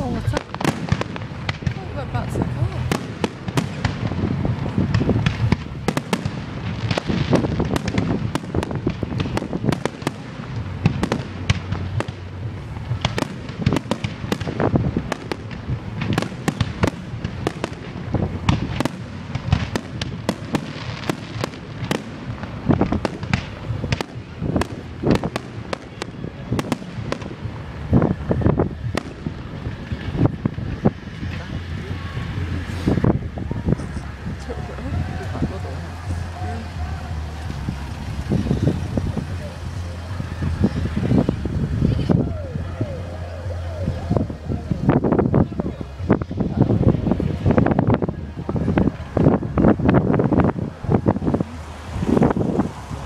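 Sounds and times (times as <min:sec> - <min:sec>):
fireworks bangs and cracks: 0:00.0 - 0:53.0
low continuous rumble: 0:00.0 - 0:53.0.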